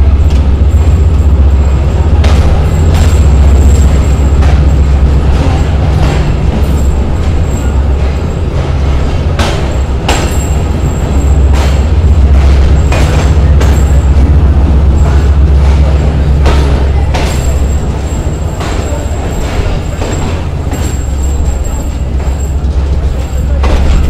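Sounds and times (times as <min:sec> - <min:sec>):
train coach rumbling: 0:00.0 - 0:24.0
wheel clacks over rail joints: 0:00.0 - 0:24.0.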